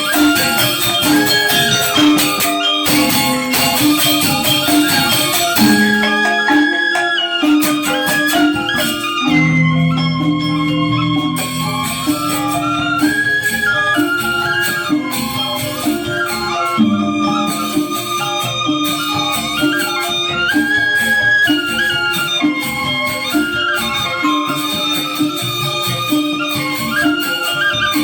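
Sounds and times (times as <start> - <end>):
gamelan ensemble playing: 0.0 - 28.0.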